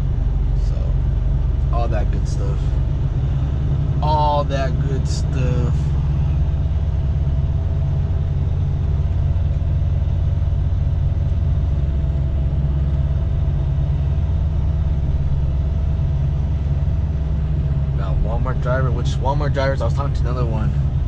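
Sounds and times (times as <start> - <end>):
diesel truck engine humming: 0.0 - 21.0.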